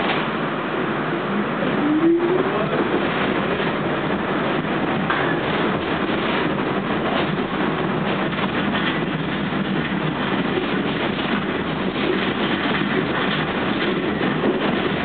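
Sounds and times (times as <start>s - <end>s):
subway train rumbling on rails: 0.0s - 15.0s.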